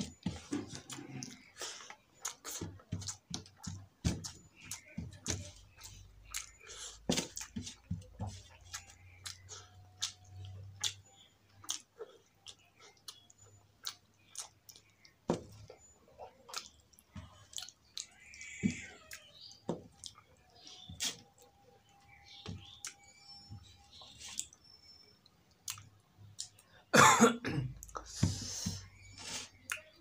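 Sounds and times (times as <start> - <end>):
wet chewing and mouth clicks: 0.0 - 26.8, 28.9 - 30.0.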